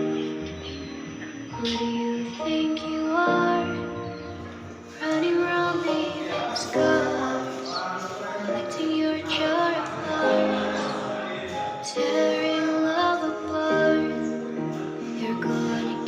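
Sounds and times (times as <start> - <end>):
person singing: 1.5 - 16.0.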